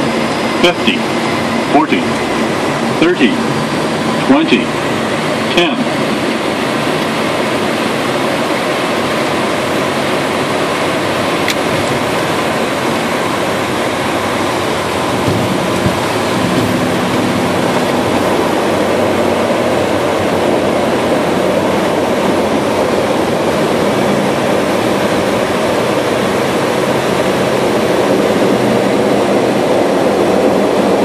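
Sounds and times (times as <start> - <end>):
airplane engine and propeller noise: 0.0 - 31.0
faint steady engine tones: 0.0 - 31.0
runway rumble: 0.0 - 31.0
rushing air: 0.0 - 31.0.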